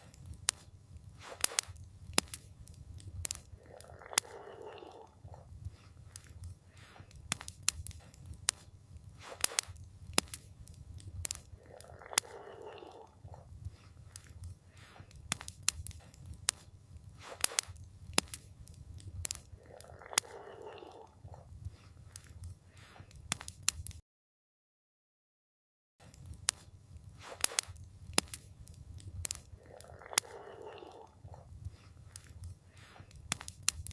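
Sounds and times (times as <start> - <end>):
campfire crackling and popping: 0.0 - 24.0, 26.0 - 33.9.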